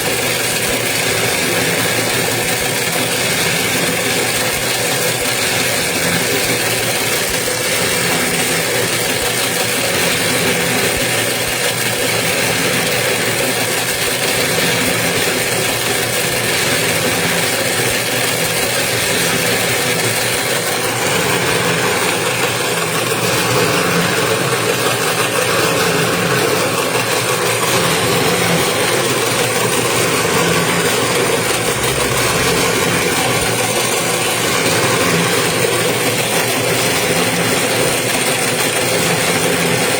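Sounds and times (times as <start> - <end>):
winding machine hum and rattle: 0.0 - 39.9.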